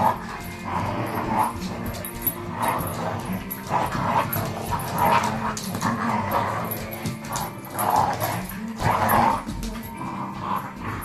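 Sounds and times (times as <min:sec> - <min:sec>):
background music: 0:00.0 - 0:11.0
dogs play barking and yipping: 0:00.0 - 0:11.0.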